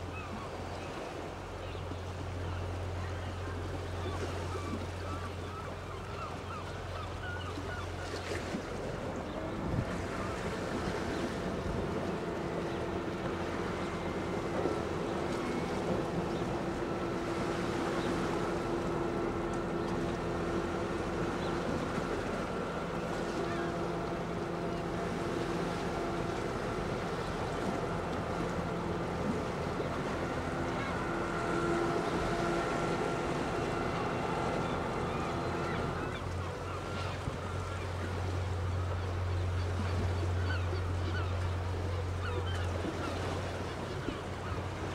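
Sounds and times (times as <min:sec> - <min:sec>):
boat diesel engine droning: 0:00.0 - 0:44.9.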